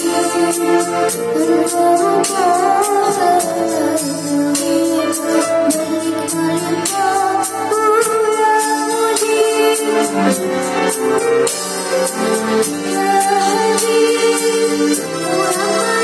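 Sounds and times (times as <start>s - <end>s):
girl singing into microphone: 0.0s - 10.4s, 12.6s - 16.0s
backing track with drum beat: 0.0s - 16.0s.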